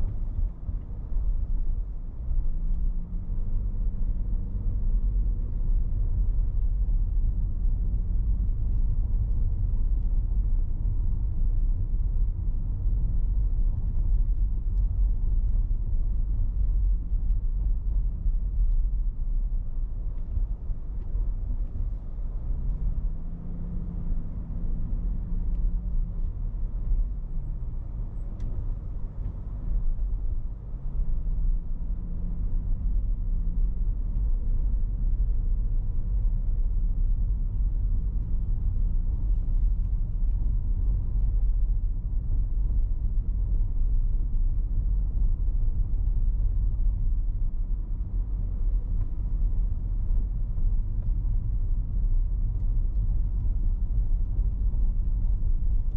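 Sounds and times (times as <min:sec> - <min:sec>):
car driving slowly: 0:00.0 - 0:55.9.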